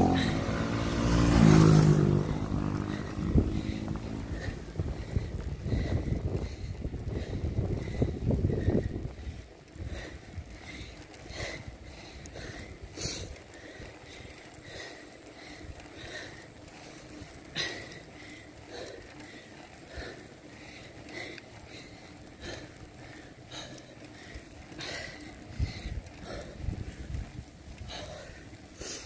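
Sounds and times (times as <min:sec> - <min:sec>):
tyre and wind rumble: 0:00.0 - 0:28.8
cyclist breathing quickly: 0:00.0 - 0:29.0.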